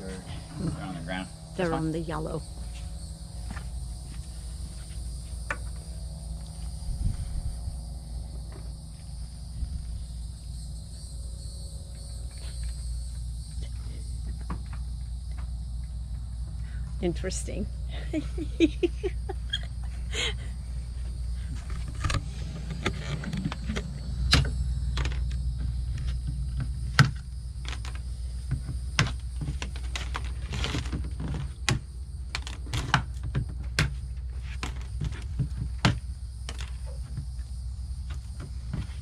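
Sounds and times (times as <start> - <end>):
steady low rumble: 0.0 - 32.4.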